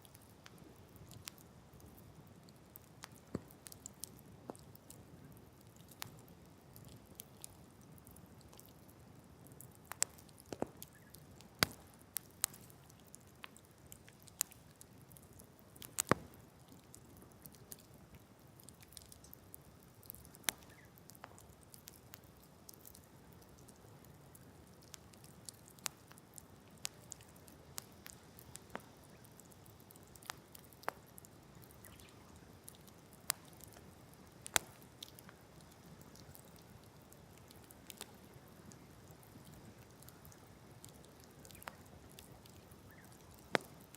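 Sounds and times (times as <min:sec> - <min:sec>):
campfire crackling and popping: 0:00.0 - 0:43.9
faint fire hiss: 0:00.0 - 0:43.9.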